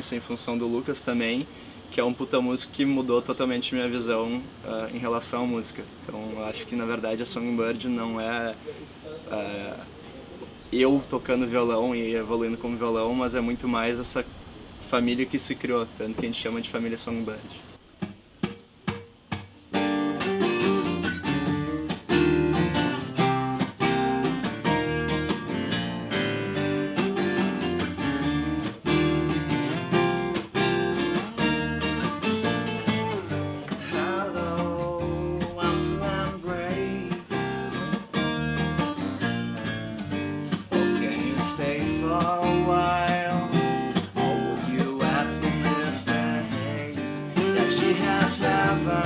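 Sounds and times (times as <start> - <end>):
acoustic guitar strumming: 0.0 - 49.0.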